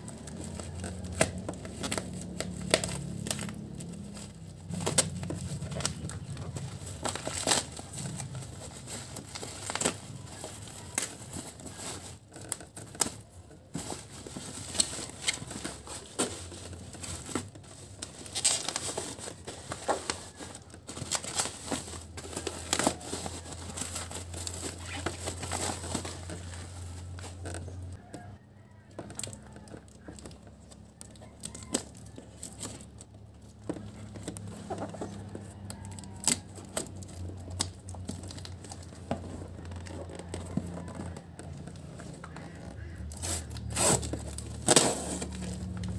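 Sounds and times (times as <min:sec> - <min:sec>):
packing tape tearing off cardboard: 0:00.0 - 0:28.0, 0:29.1 - 0:45.9
plastic wrapping crinkling: 0:00.0 - 0:45.9.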